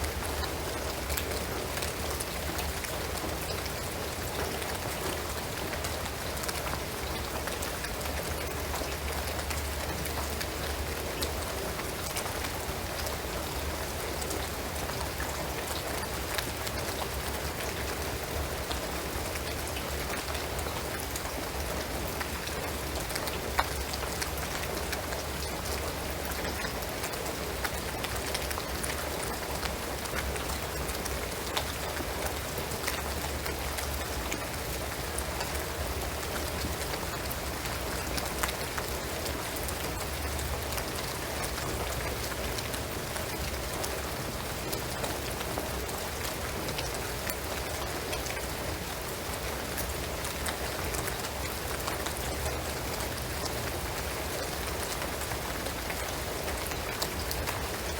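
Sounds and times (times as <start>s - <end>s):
rain on roof and trees: 0.0s - 57.9s.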